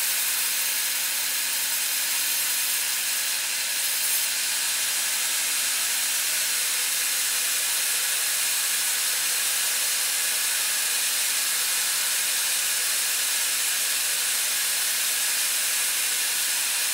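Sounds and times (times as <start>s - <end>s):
band saw cutting wood: 0.0s - 16.9s.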